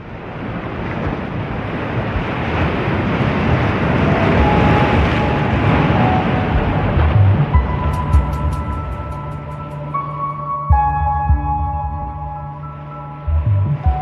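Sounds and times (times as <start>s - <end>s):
ocean waves breaking on beach: 0.0s - 14.0s.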